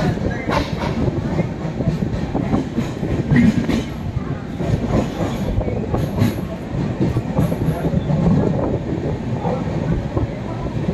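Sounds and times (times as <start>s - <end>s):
wheel clatter over rail joints: 0.0s - 9.6s
train running rumble: 0.0s - 10.9s.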